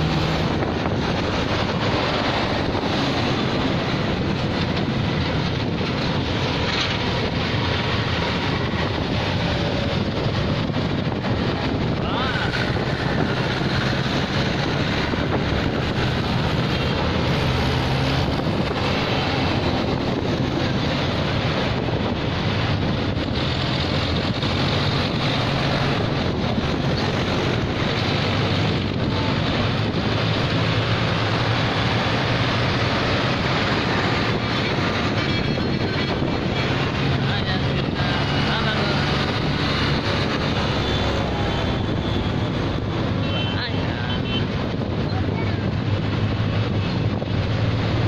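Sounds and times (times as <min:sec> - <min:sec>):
tractor engines humming: 0:00.0 - 0:48.0
wind buffeting microphone: 0:00.0 - 0:48.0.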